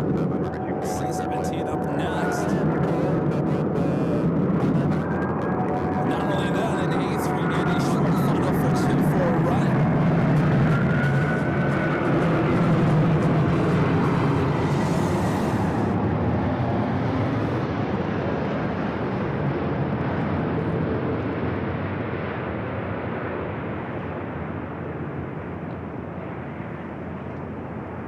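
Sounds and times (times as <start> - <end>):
airliner jet engines passing: 0.0 - 28.0.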